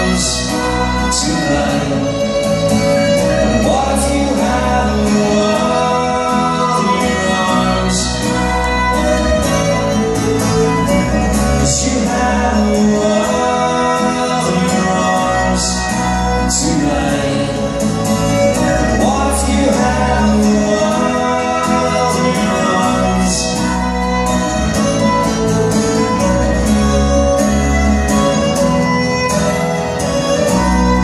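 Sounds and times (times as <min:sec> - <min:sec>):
bass guitar: 0:00.0 - 0:31.0
fiddle playing: 0:00.0 - 0:31.0
strummed acoustic guitar: 0:00.0 - 0:31.0.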